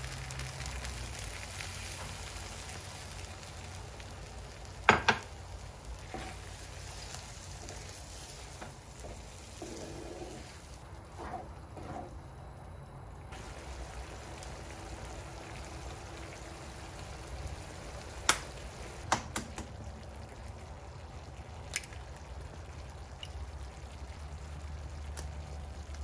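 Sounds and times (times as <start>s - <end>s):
sauce bubbling in a pan: 0.0s - 11.6s, 13.3s - 26.0s.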